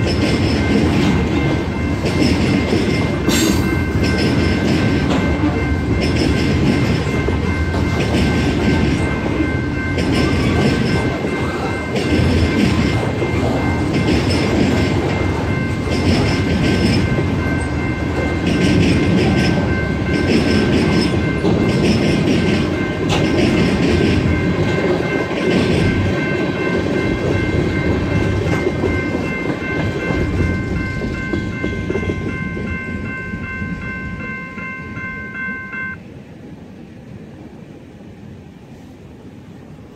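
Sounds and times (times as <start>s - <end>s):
electronic crossing bell ringing: 0.0s - 36.0s
train cars rumbling with wheel clatter: 0.0s - 39.9s.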